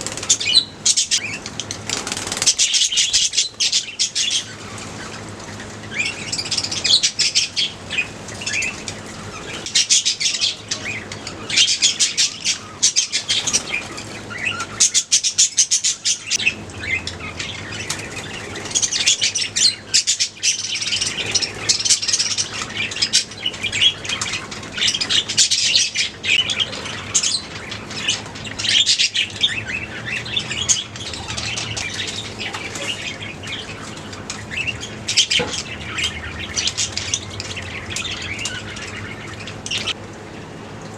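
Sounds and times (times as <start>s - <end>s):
budgerigars chattering and chirping: 0.0s - 40.0s.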